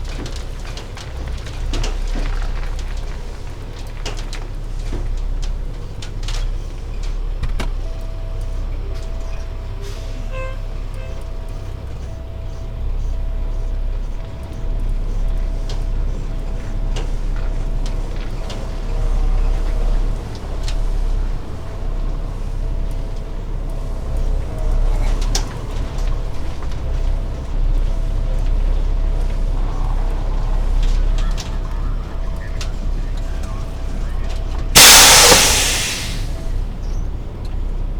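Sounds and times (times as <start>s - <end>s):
diesel truck engine rumbling: 0.0s - 37.9s.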